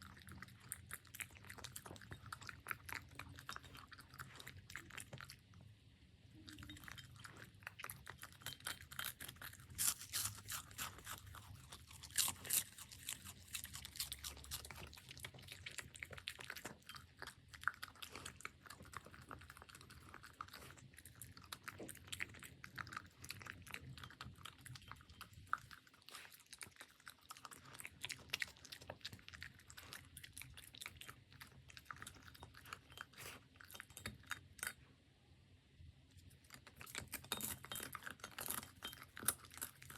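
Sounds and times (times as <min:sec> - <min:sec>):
puppy crunching food: 0:00.0 - 0:05.7, 0:06.5 - 0:34.9, 0:36.1 - 0:39.9.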